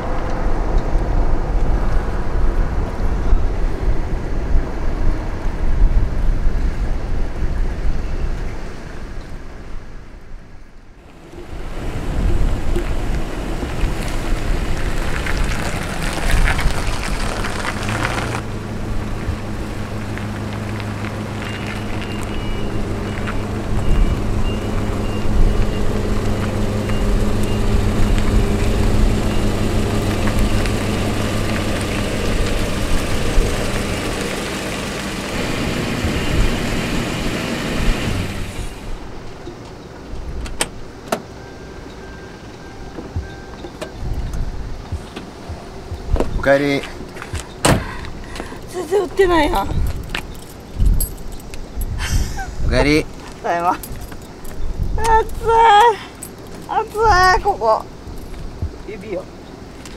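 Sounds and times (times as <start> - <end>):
wind and road noise: 0.0 - 59.9
car engine idling: 11.0 - 59.9.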